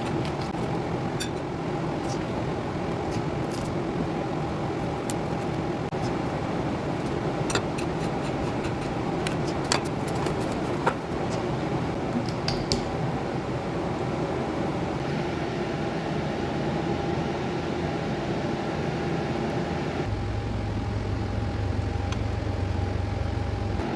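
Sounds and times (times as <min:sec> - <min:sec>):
kitchen fan humming: 0:00.0 - 0:23.9.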